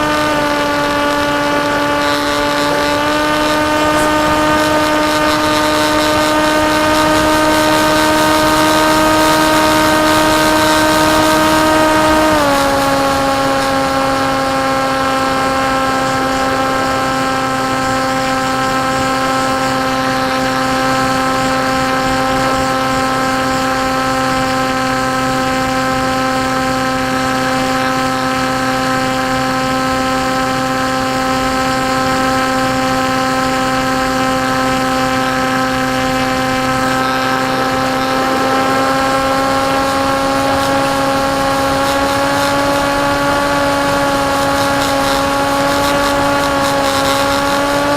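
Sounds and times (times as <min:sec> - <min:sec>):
electric motor and propeller hum: 0:00.0 - 0:47.9
rushing wind: 0:00.0 - 0:47.9.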